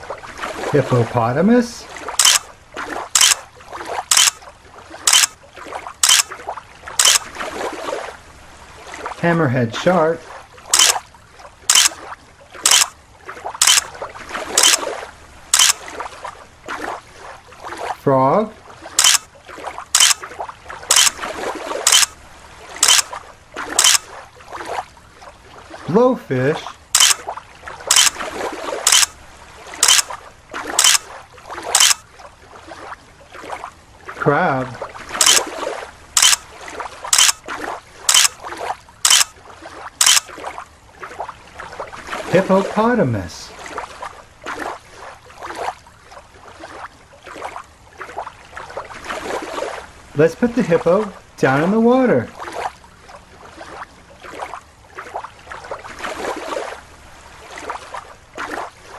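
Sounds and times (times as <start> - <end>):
splashing water: 0.0 - 58.9.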